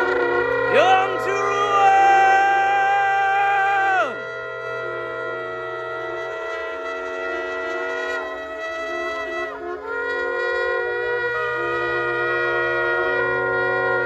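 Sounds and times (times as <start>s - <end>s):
shofars blowing long blasts: 0.0s - 14.0s.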